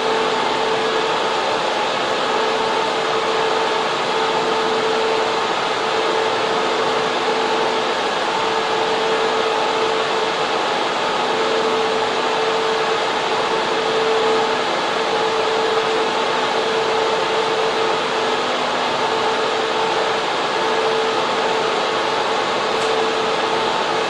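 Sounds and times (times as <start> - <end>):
electrical hum: 0.0 - 24.0
server cooling fans rushing air: 0.0 - 24.0.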